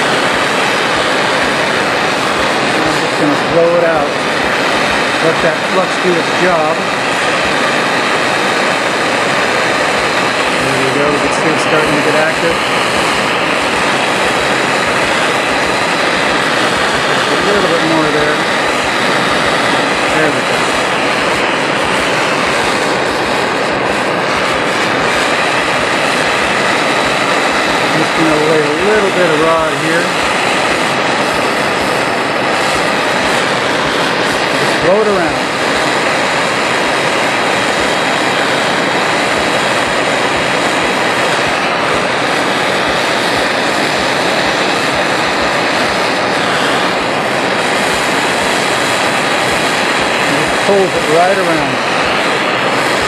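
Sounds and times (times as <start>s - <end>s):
torch flame rushing: 0.0s - 53.0s.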